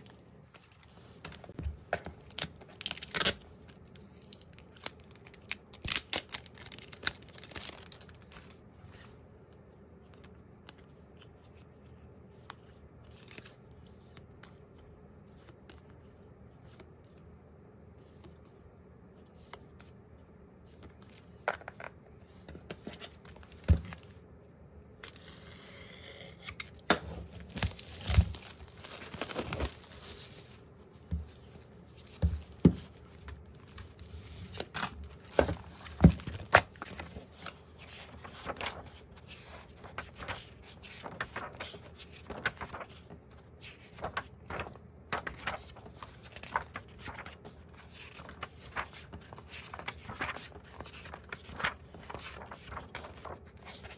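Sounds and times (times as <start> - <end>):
paper pages being flipped: 0.0 - 17.2, 25.0 - 53.9.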